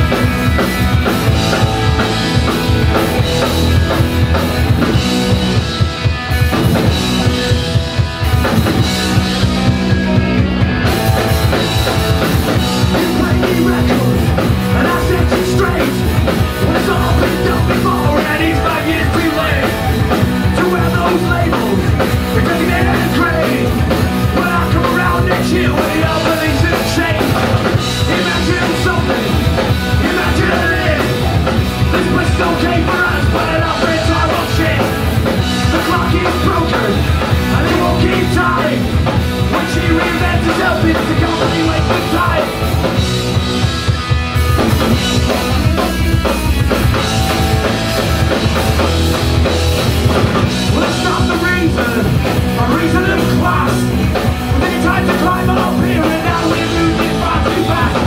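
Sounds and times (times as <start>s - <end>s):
bass guitar: 0.0s - 58.0s
distorted electric guitars: 0.0s - 58.0s
drum kit: 0.0s - 58.0s.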